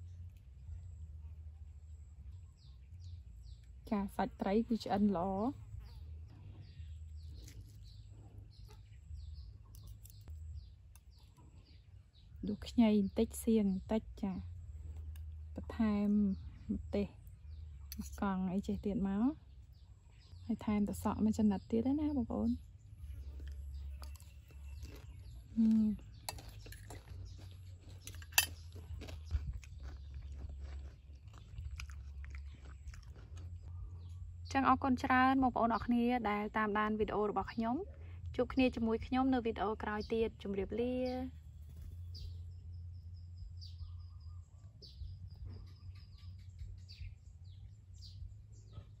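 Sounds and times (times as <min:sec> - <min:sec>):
small birds chirping: 0:00.0 - 0:49.0
steady low rumble: 0:00.0 - 0:49.0.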